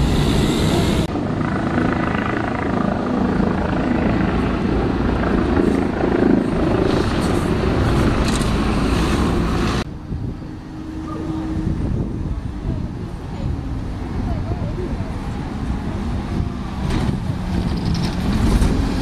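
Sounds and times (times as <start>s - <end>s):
bus passing by: 0.0s - 19.0s.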